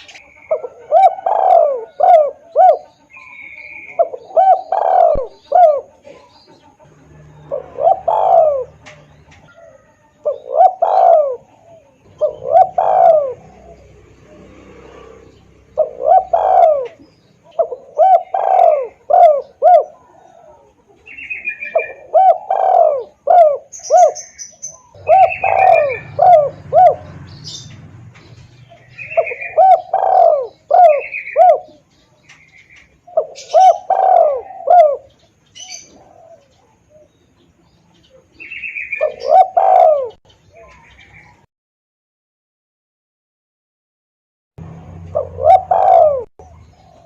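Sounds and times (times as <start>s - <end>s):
small bird chirping: 0.0s - 0.8s, 1.6s - 41.5s
dove cooing: 0.0s - 41.4s, 44.6s - 47.0s.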